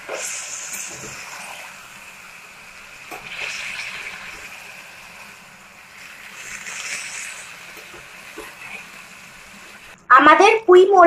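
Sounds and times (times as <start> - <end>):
greens sizzling in hot oil: 0.0 - 10.0.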